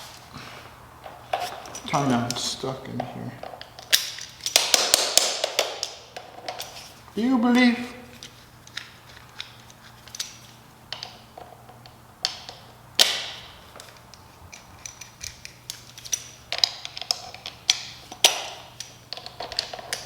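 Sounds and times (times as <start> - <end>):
hand tools clicking and scraping: 0.0 - 20.0.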